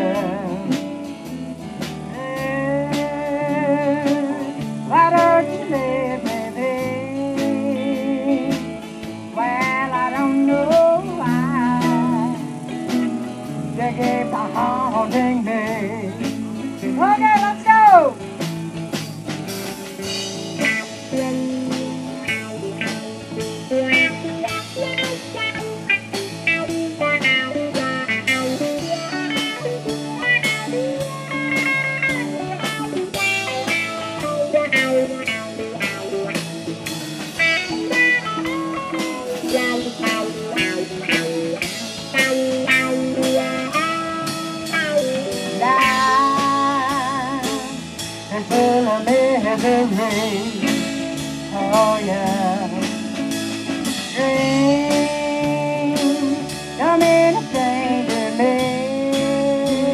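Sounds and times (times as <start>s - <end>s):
bass: 0.0s - 59.9s
drum kit beat: 0.0s - 59.9s
electric lead guitar solo: 0.0s - 59.9s
strummed acoustic guitar: 0.0s - 59.9s.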